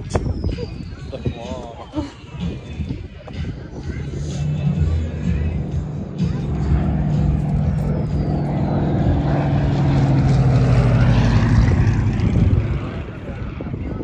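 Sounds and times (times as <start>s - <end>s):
propeller airplane engine droning: 0.0s - 14.0s.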